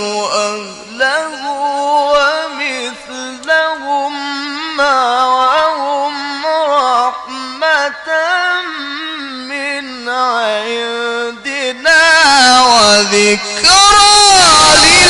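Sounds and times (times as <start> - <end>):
man chanting melismatic recitation: 0.0 - 15.0.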